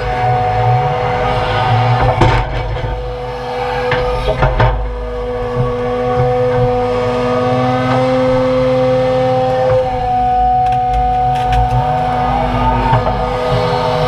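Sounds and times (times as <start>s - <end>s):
excavator diesel engine: 0.0s - 14.0s
hydraulics whining: 0.0s - 14.0s.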